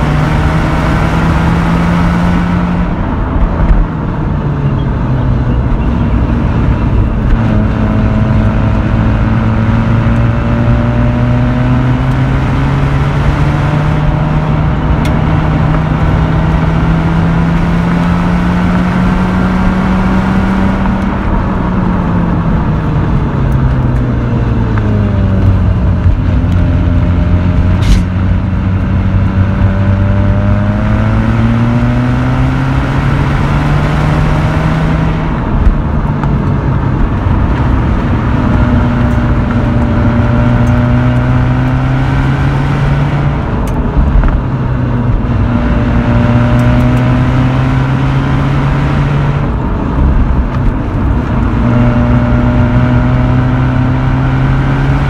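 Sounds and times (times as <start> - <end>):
rotary engine revving: 0.0 - 3.9, 4.9 - 55.0
tyre and road noise: 0.0 - 55.0.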